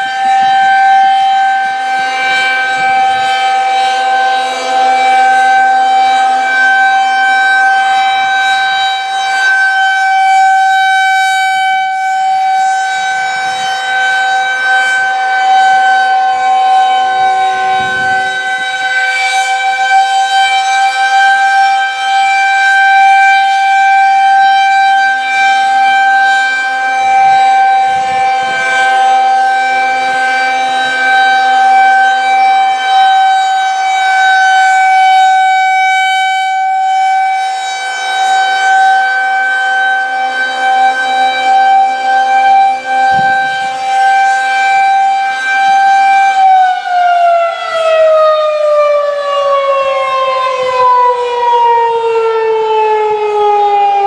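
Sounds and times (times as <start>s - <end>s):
outdoor warning siren steady tone: 0.0s - 54.0s.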